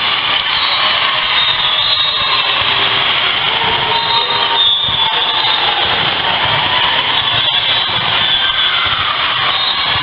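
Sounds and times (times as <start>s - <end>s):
crowd din: 0.0s - 10.0s.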